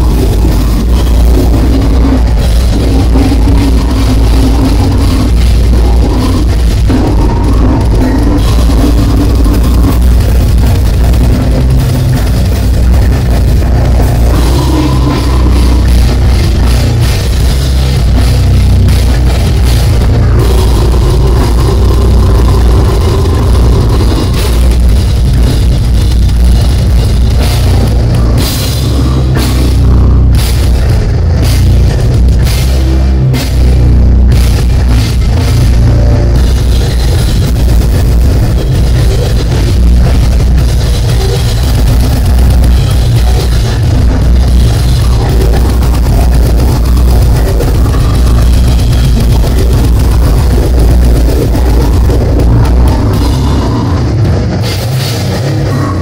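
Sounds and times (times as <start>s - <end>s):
bass guitar: 0.0s - 56.0s
distorted guitars: 0.0s - 56.0s
drum kit with crashing cymbals: 0.0s - 56.0s.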